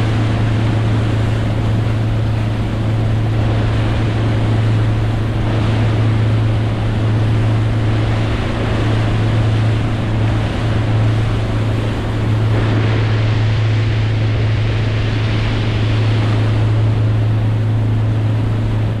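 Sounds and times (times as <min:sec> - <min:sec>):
motorboat engine droning: 0:00.0 - 0:19.0
rushing water: 0:00.0 - 0:19.0
wind noise: 0:00.0 - 0:19.0.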